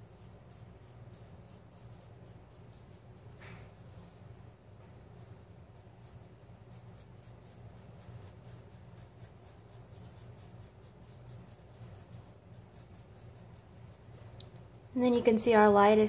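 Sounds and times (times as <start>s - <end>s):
pencil scratching on paper: 0.0s - 14.3s
low steady hum: 0.0s - 16.0s.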